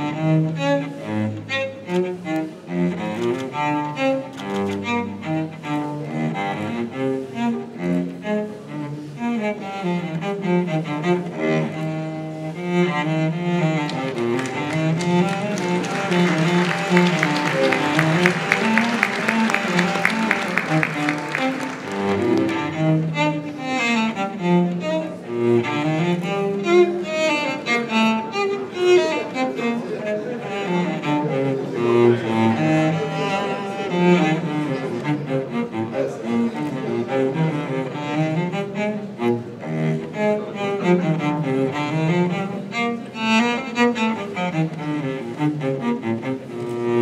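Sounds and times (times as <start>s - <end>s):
bowed strings with cello: 0.0s - 47.0s.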